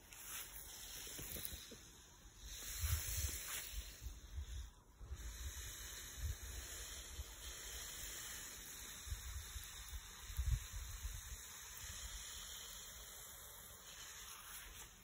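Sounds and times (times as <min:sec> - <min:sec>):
water spraying from garden hose: 0:00.0 - 0:15.0.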